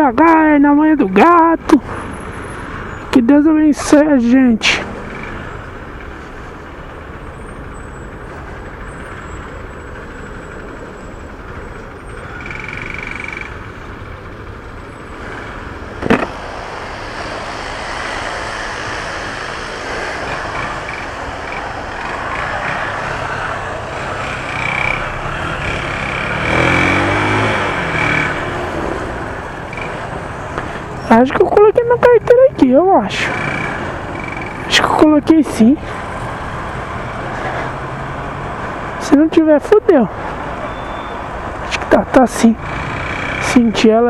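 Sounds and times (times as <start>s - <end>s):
road and traffic noise: 0.0s - 44.0s
motorcycle engine running: 4.8s - 38.9s, 42.5s - 44.0s.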